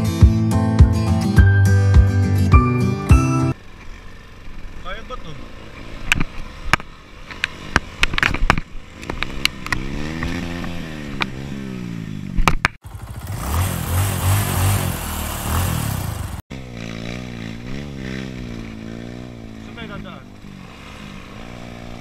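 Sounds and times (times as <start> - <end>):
motorcycle engine revving: 3.5 - 22.0.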